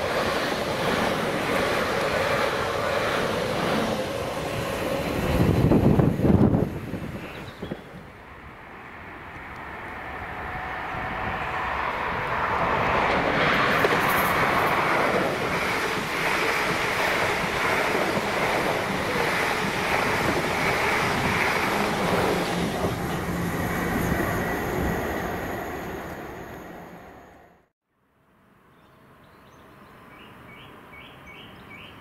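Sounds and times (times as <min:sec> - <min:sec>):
train rumble and wheel noise: 0:00.0 - 0:27.7.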